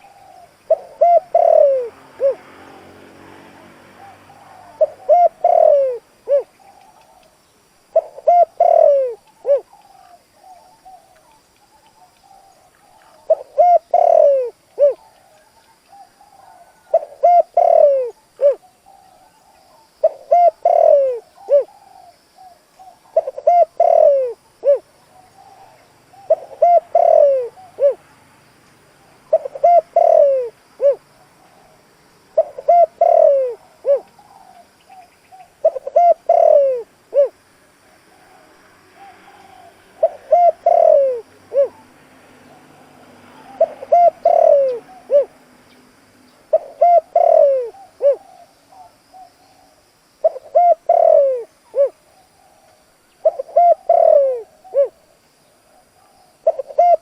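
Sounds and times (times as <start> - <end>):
dove cooing: 0.0 - 3.0, 3.9 - 7.3, 7.9 - 28.0, 29.2 - 37.4, 38.1 - 45.5, 46.5 - 57.0.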